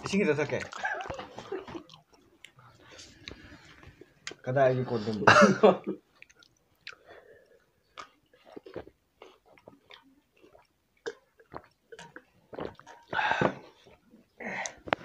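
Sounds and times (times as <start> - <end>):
people chewing and lip-smacking: 0.0 - 4.5, 5.8 - 15.0.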